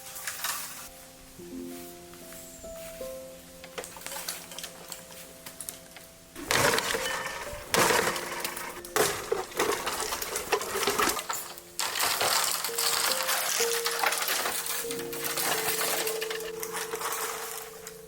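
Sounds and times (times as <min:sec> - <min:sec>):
dry firewood crackling: 0:00.0 - 0:18.0
soft background music: 0:00.0 - 0:18.0.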